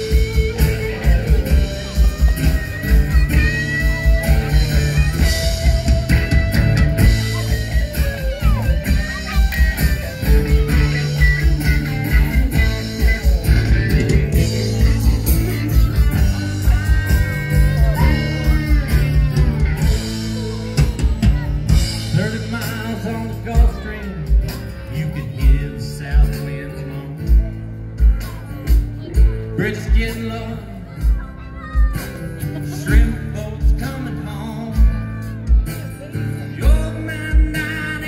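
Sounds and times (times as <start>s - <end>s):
bass: 0.0s - 38.0s
drum kit beat: 0.0s - 38.0s
lead guitar bending notes: 0.0s - 38.0s
strummed acoustic guitar: 0.0s - 38.0s.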